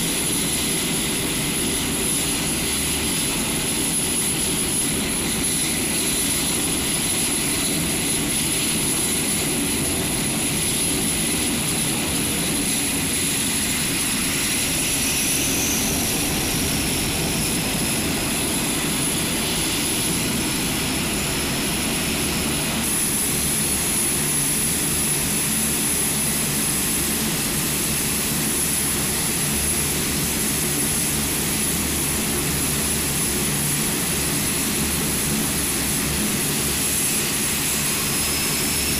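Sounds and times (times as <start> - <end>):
turboprop engines whining: 0.0 - 38.9.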